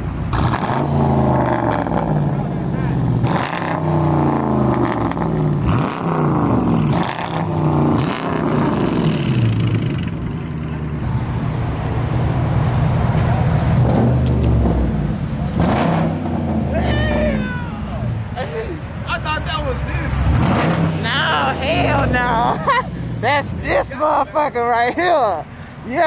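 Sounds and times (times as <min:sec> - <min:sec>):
car engine revving: 0:00.0 - 0:24.5
car engine idling: 0:00.0 - 0:26.0.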